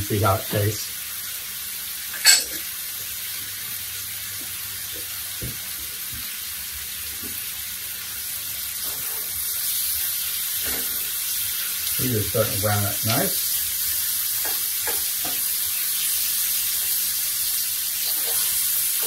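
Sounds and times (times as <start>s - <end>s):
meat and onions sizzling: 0.0s - 19.0s.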